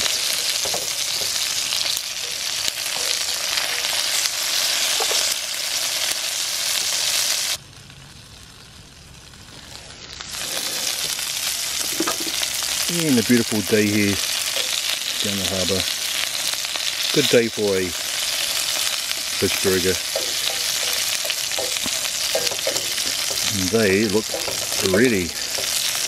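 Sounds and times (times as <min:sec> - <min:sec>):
food sizzling in frying pan: 0:00.0 - 0:07.6, 0:08.2 - 0:26.0.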